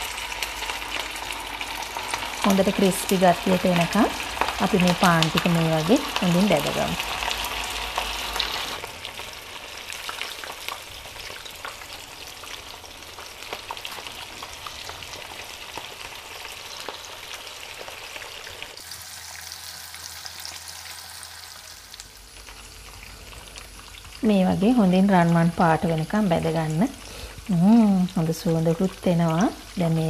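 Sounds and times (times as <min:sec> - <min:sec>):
bread deep-frying in oil: 0:00.0 - 0:30.0.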